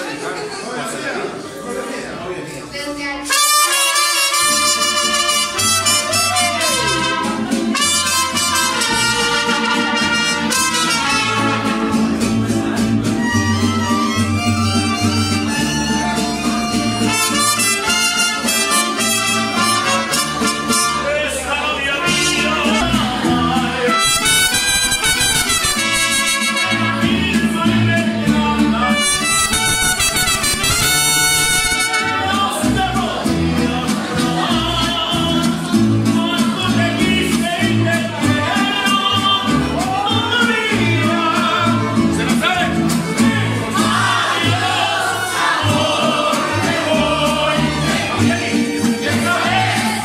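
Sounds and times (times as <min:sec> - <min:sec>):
mariachi band playing: 0:00.0 - 0:50.0
man singing: 0:04.0 - 0:50.0.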